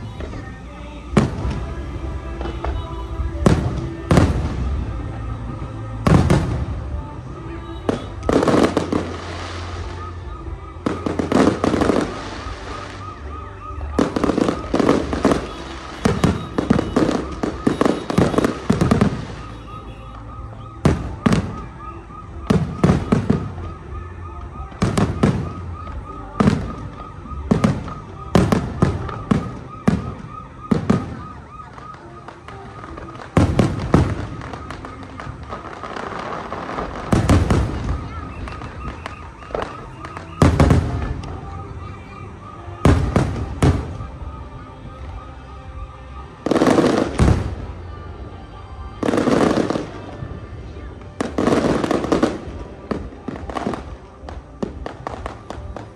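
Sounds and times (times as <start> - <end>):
fireworks bursting: 0.0 - 55.9.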